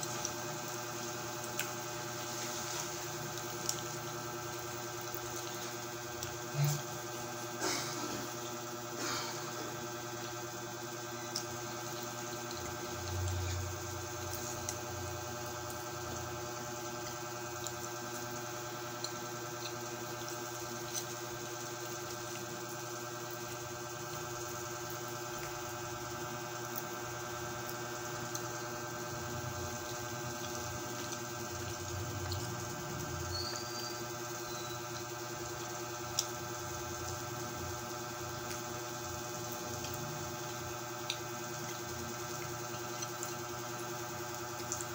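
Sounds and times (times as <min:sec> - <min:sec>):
faint eating sounds: 0:00.0 - 0:44.9
steady background hum: 0:00.0 - 0:44.9.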